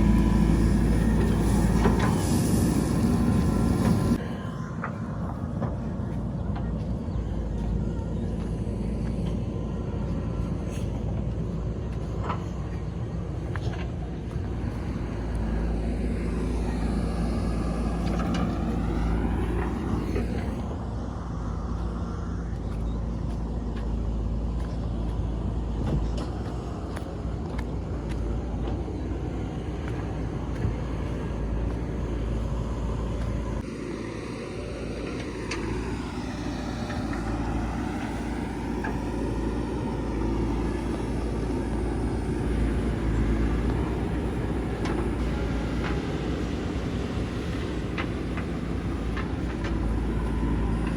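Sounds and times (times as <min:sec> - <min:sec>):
diesel engine digging: 0:00.0 - 0:50.9.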